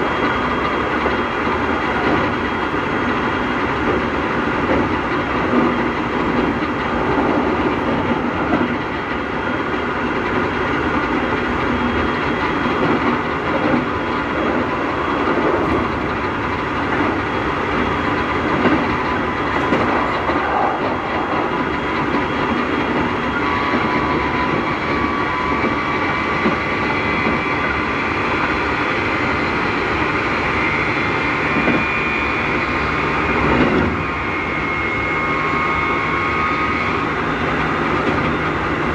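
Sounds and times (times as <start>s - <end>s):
train wheels clacking over rail joints: 0.0s - 34.6s
electric traction motor whine: 0.0s - 38.9s.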